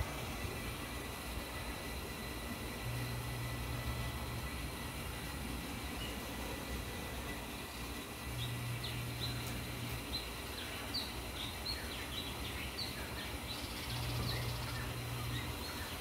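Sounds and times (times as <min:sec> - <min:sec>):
low steady hum: 0:00.0 - 0:16.0
outdoor background noise: 0:00.0 - 0:16.0
birds chirping: 0:03.0 - 0:16.0.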